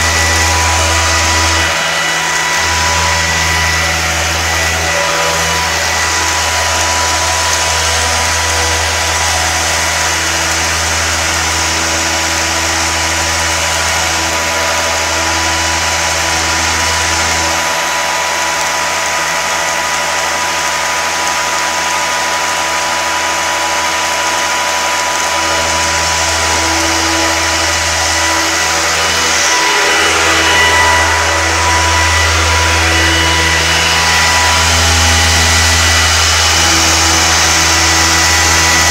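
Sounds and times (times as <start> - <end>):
machine deep hum: 0.0 - 38.9
stone cutting disc whining: 0.0 - 38.9.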